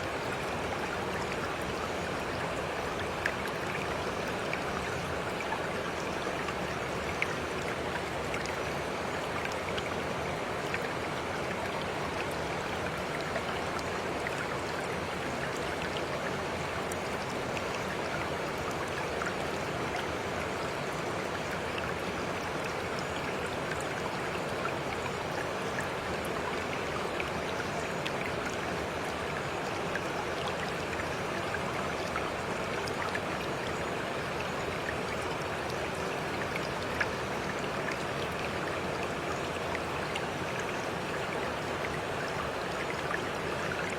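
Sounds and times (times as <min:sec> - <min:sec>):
stream running water: 0:00.0 - 0:43.9.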